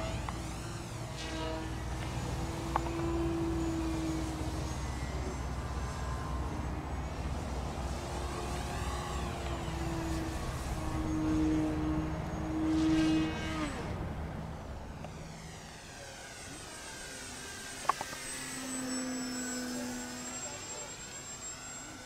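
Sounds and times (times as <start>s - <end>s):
electric model plane motor whine: 0.0s - 22.0s.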